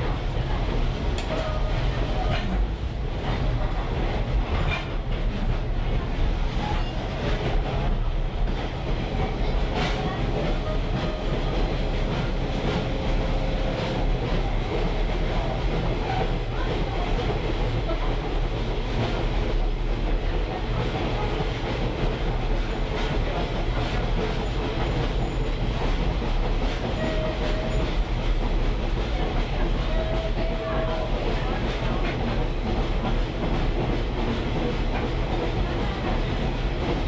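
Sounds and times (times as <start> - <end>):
caboose rumbling along track: 0.0 - 37.0.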